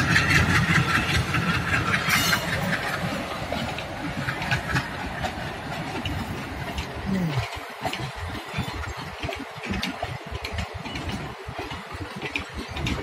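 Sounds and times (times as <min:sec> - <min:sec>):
diesel locomotives accelerating: 0:00.0 - 0:13.0.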